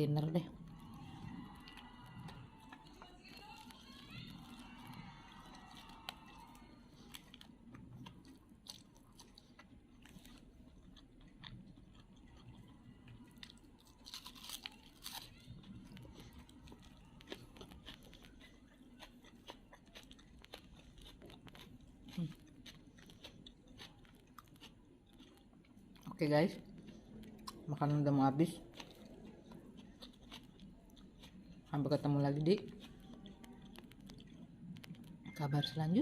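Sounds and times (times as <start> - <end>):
person chewing food: 0.4 - 35.7.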